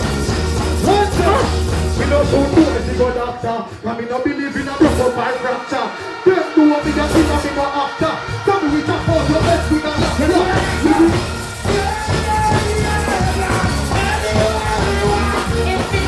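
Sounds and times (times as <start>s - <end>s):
heavy bass line: 0.0s - 3.4s, 4.6s - 16.0s
dancehall music over pa: 0.0s - 16.0s.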